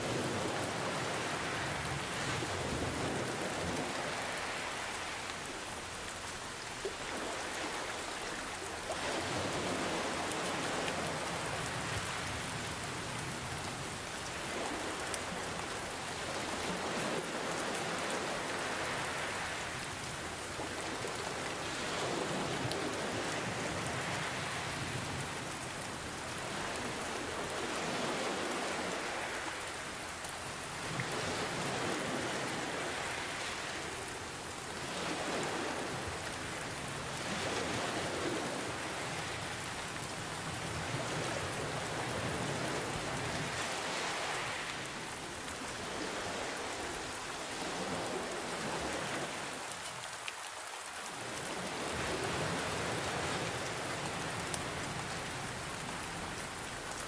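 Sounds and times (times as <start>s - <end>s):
ocean waves: 0.0s - 57.0s
steady rain pattering: 0.0s - 57.0s.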